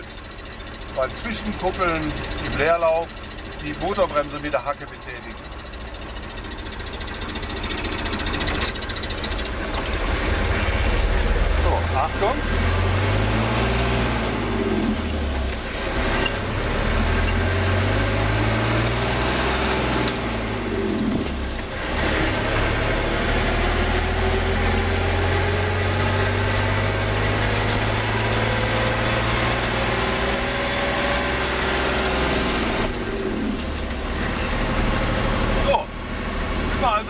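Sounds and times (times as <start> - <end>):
truck engine revving through gears: 0.0 - 37.0.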